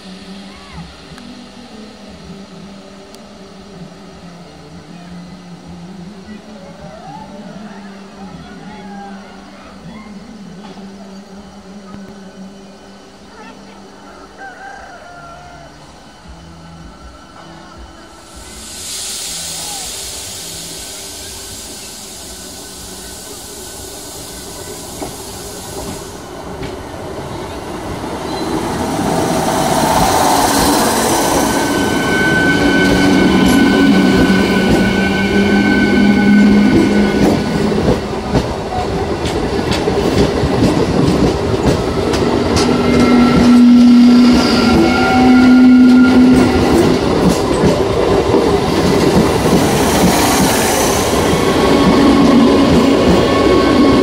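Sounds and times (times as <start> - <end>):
electric train passing: 0.0 - 54.0.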